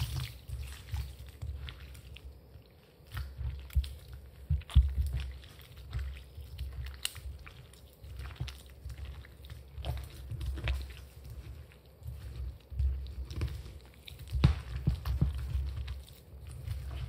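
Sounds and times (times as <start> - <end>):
hand mixing wet dough: 0.0 - 17.0.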